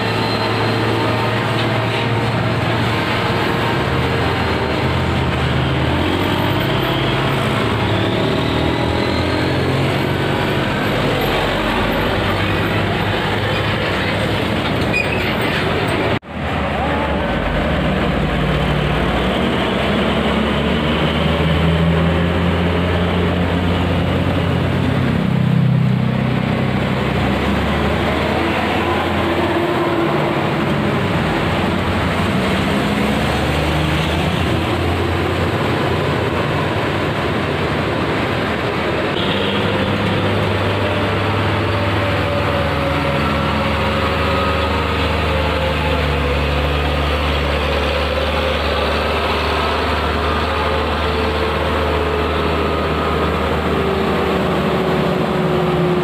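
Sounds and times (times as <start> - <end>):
coach buses driving past: 0.0 - 56.0
diesel engines humming: 0.0 - 56.0.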